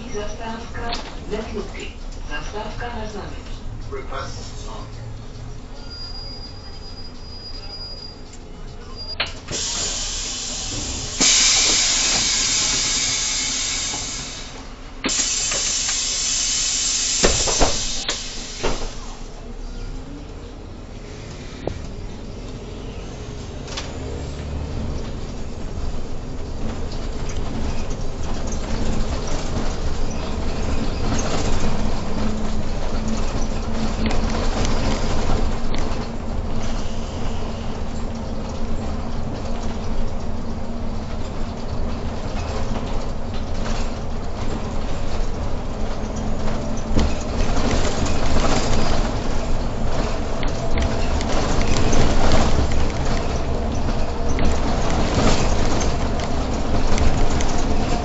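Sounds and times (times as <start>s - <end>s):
loud hiss inside a bus: 5.8s - 19.9s, 20.9s - 26.0s, 26.6s - 58.0s.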